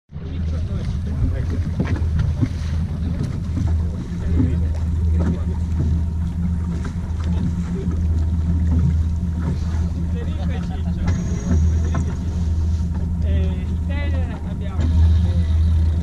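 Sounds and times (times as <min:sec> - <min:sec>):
boat engine humming: 0:00.1 - 0:16.0.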